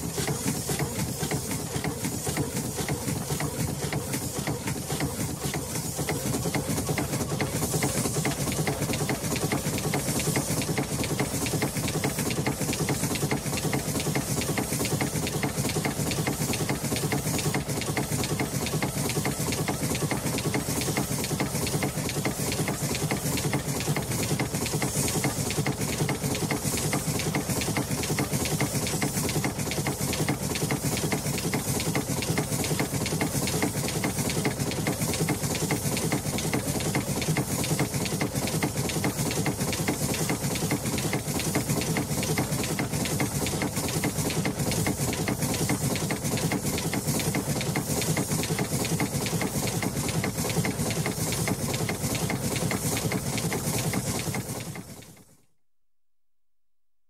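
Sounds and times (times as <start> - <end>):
steam hissing: 0.0 - 55.0
steam engine running: 0.0 - 55.5.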